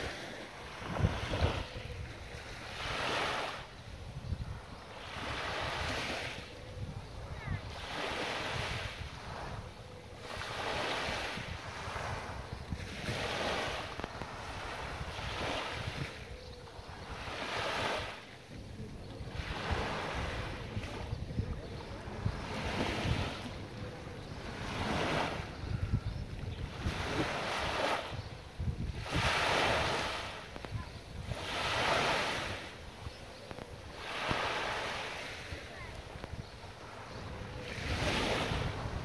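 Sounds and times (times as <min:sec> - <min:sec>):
small waves washing onto beach: 0:00.0 - 0:39.0
wind rumbling on microphone: 0:00.0 - 0:39.0.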